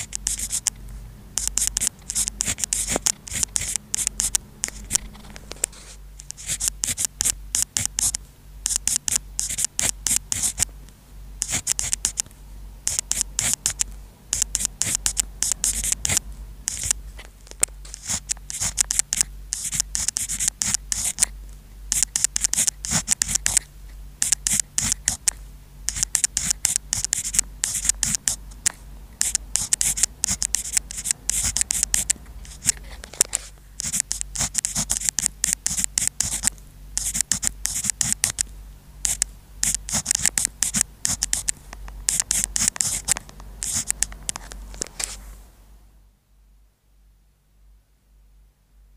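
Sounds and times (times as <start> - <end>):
pen scratching on paper: 0.0 - 0.7, 1.4 - 10.7, 11.4 - 12.2, 12.8 - 17.0, 17.8 - 38.4, 39.0 - 45.2
faint low hum: 0.0 - 48.9.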